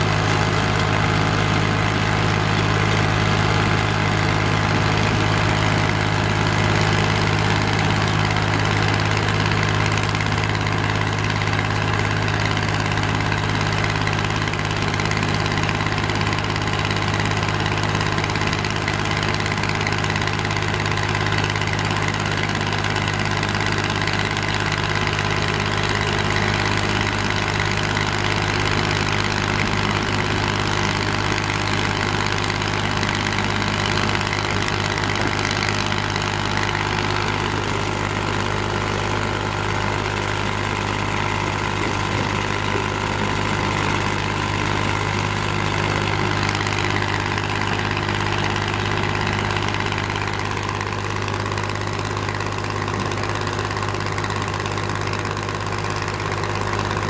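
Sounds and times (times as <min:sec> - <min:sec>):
excavator diesel engine running: 0:00.0 - 0:57.0
soil screening plant and conveyor: 0:00.0 - 0:57.0.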